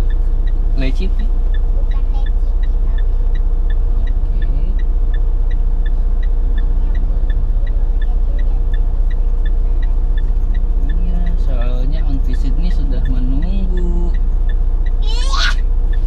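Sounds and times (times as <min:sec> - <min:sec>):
car idling: 0:00.0 - 0:16.0
turn signal ticking: 0:00.0 - 0:16.0.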